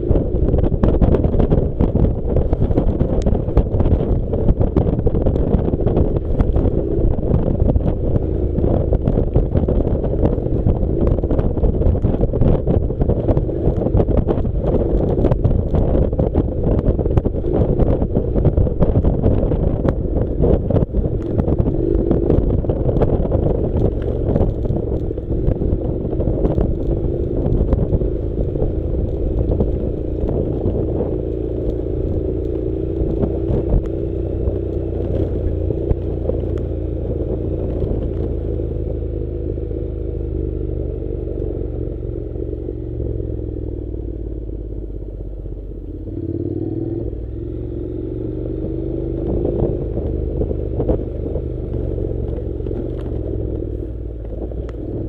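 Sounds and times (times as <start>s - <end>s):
motorcycle engine at low speed: 0.0s - 55.0s.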